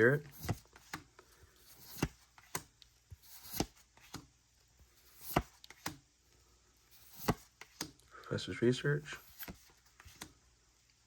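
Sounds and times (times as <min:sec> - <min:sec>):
cards sliding together: 0:00.0 - 0:06.1, 0:06.9 - 0:08.0, 0:09.2 - 0:11.0.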